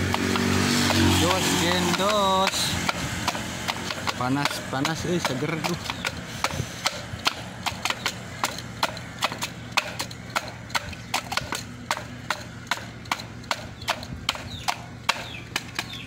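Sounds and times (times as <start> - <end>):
pestle pounding in mortar: 0.0 - 16.0.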